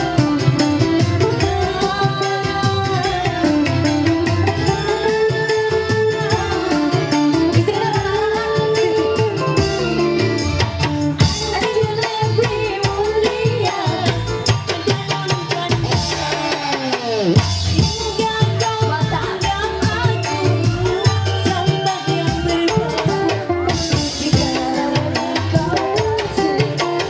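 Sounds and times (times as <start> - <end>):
electronic keyboard: 0.0 - 27.0
fast hand-drum beat: 0.0 - 27.0
woman singing: 0.0 - 27.0.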